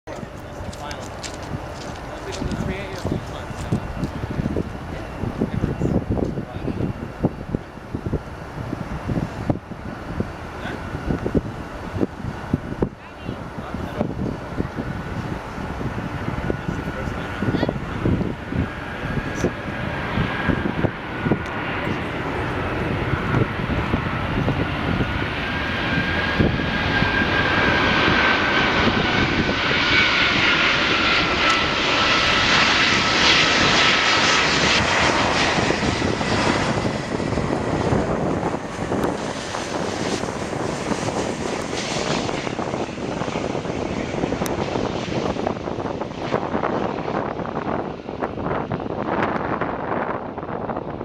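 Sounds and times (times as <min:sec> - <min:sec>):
jet engines roaring with whine: 0:00.0 - 0:51.0.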